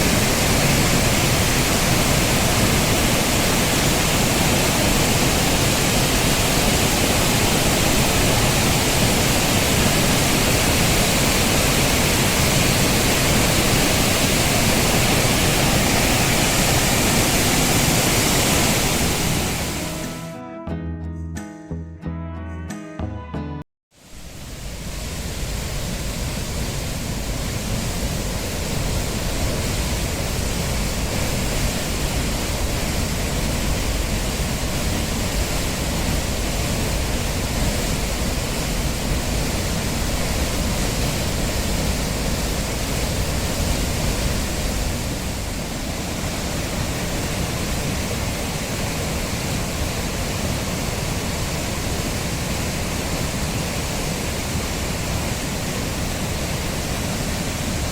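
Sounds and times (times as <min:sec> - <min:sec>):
waterfall rushing: 0:00.0 - 0:20.2, 0:24.0 - 0:57.9.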